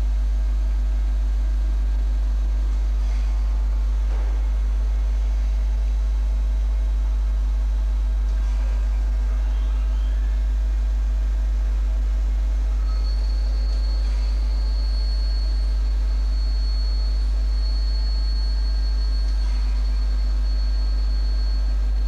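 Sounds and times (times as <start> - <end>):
grinding machine hum: 0.0 - 22.0
high-pitched machine whine: 0.0 - 22.0.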